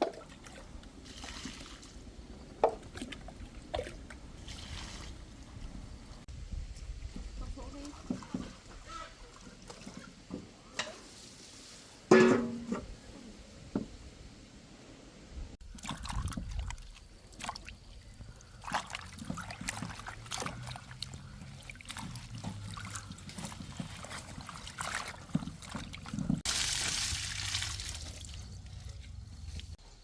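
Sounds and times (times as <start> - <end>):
water sloshing and trickling: 0.0 - 6.3, 7.1 - 12.6, 15.5 - 29.8.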